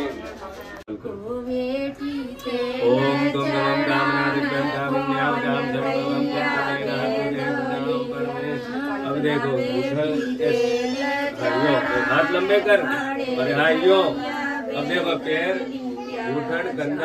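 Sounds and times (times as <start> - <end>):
voices chanting: 1.6 - 17.0.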